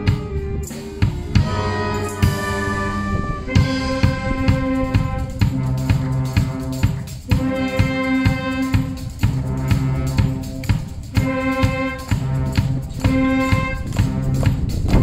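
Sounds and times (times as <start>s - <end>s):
brass chords: 0.0s - 15.0s
drum kit beat: 0.0s - 15.0s.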